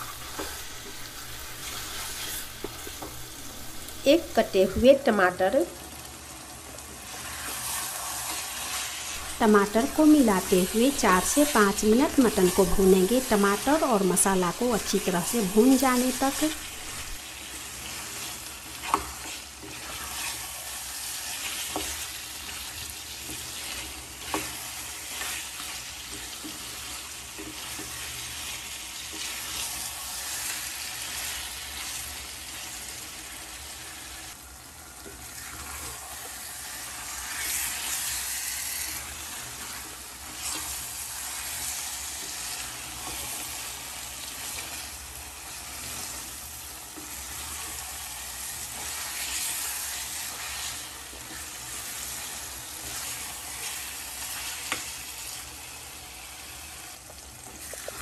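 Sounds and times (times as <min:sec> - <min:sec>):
wooden spatula scraping: 0:00.0 - 0:04.0, 0:06.9 - 0:32.0, 0:34.9 - 0:55.4
meat sizzling in a pan: 0:00.0 - 0:58.0.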